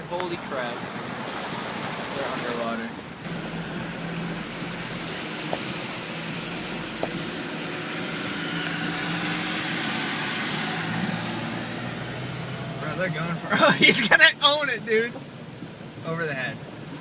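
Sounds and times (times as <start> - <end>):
rushing water hiss: 0.0 - 17.0
truck engine humming: 0.8 - 16.0.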